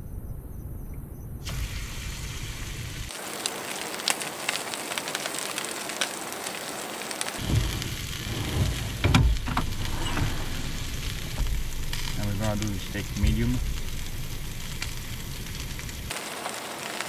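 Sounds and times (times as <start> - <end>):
oil crackling and spitting: 1.4 - 17.0.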